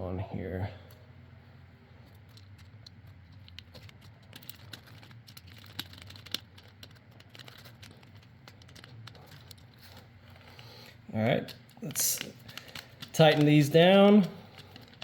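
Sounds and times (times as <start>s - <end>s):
plastic parts clicking and rustling: 2.0s - 15.0s.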